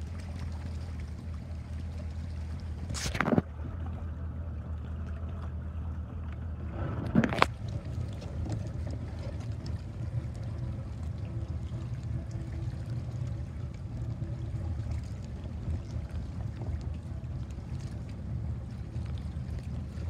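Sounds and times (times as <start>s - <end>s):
steady low hum: 0.0s - 20.0s
water lapping against boat hull: 0.0s - 20.0s.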